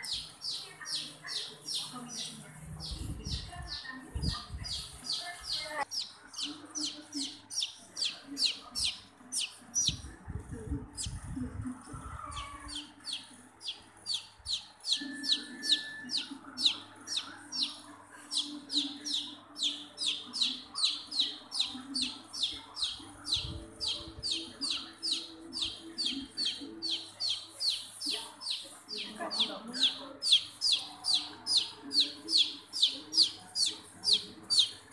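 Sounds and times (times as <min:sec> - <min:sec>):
chick peeping: 0:00.0 - 0:34.9.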